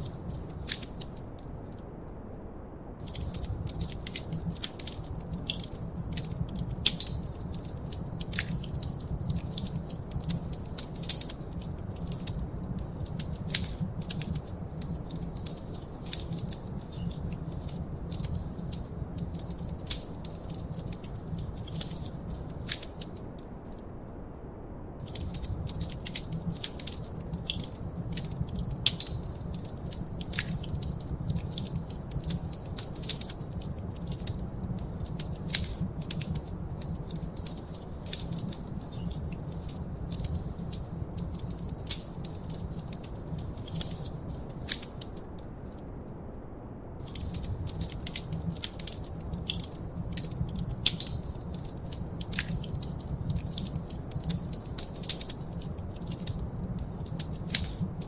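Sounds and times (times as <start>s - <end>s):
wood fire crackling: 0.0s - 2.0s, 3.0s - 23.8s, 25.0s - 46.0s, 47.0s - 58.0s.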